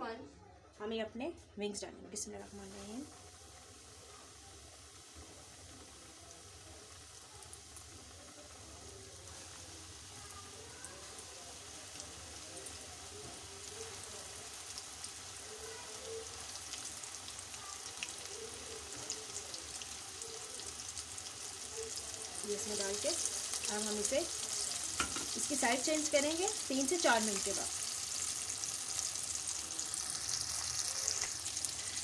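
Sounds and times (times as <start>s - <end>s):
chicken deep-frying in oil: 2.2s - 32.0s.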